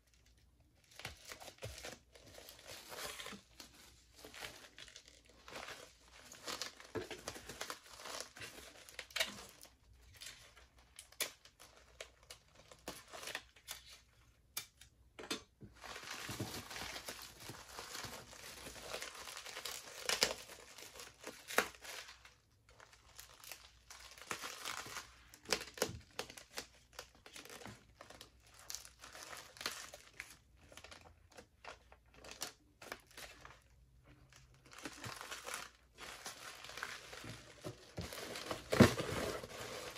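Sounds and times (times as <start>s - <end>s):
bubble wrap crinkling: 0.0s - 14.6s, 15.7s - 39.9s.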